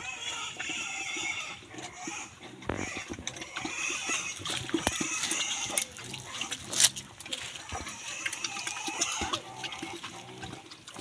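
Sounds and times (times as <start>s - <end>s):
piglets squealing: 0.0s - 10.8s.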